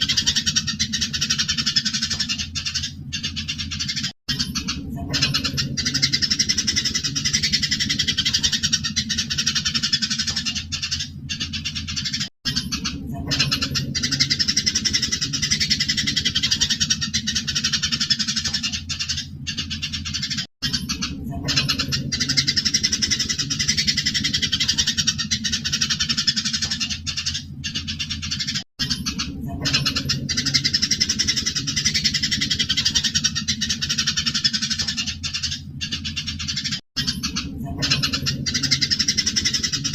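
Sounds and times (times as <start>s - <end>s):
low steady hum: 0.0s - 39.9s
sparrows chirping: 0.0s - 39.9s.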